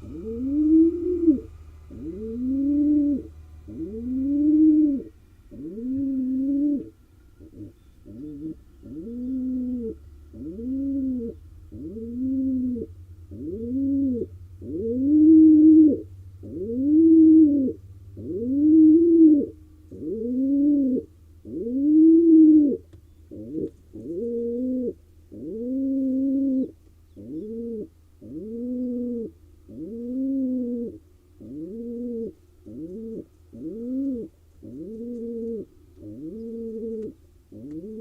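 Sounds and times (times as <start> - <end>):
faint low hum: 0.0 - 38.0
pigeon cooing: 0.0 - 38.0.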